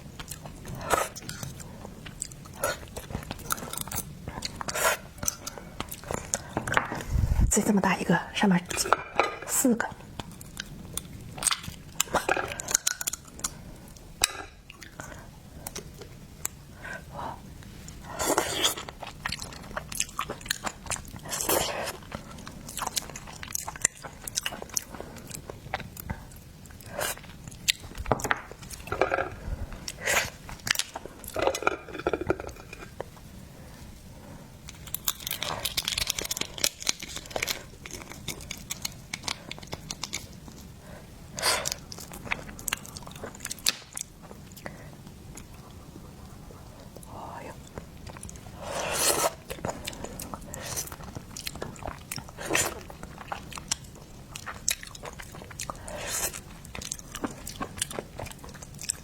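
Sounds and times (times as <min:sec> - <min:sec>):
person chewing and crunching seafood: 0:00.0 - 0:07.2, 0:10.0 - 0:33.2, 0:33.8 - 0:59.0.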